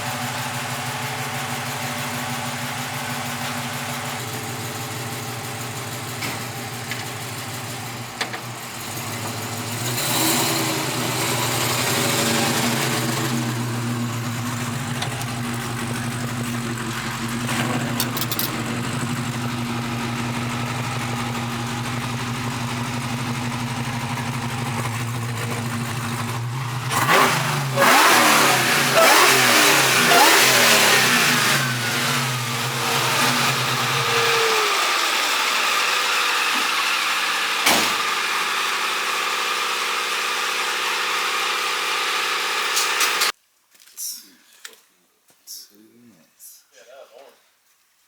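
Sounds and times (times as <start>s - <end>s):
car engine idling and revving: 0.0s - 43.4s.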